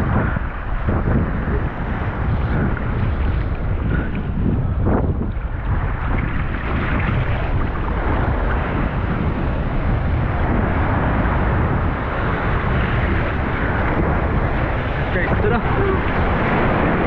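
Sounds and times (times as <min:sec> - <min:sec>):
surf breaking and churning: 0:00.0 - 0:17.0
wind buffeting microphone: 0:00.0 - 0:17.0.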